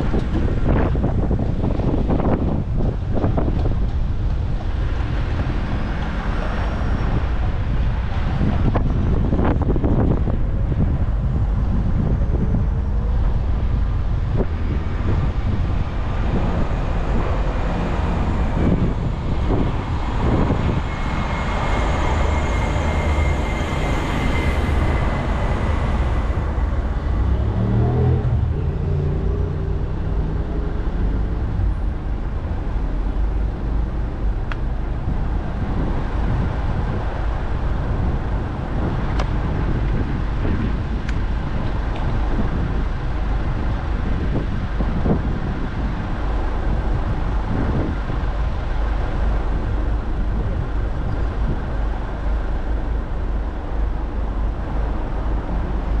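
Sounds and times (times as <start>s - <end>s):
road traffic passing: 0.0s - 56.0s
wind rumble on microphone: 0.0s - 56.0s.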